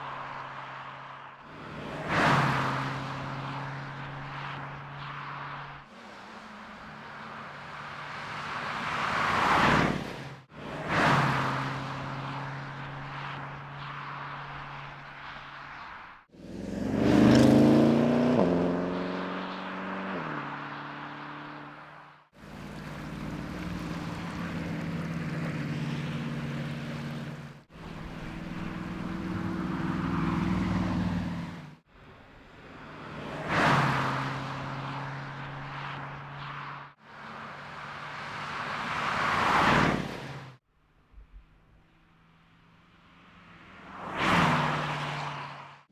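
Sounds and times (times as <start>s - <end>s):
car driving by: 0.0s - 40.6s
tyre and road noise: 0.0s - 45.9s.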